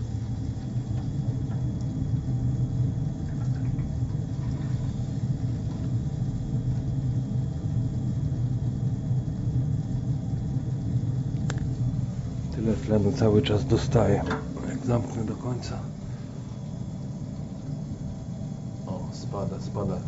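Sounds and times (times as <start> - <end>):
boiler fan rumbling: 0.0 - 20.0.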